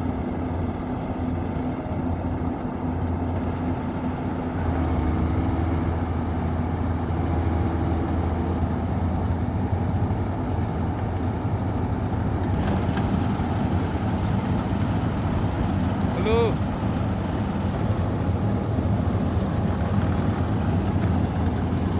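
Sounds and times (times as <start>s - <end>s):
combine harvester running: 0.0s - 21.9s.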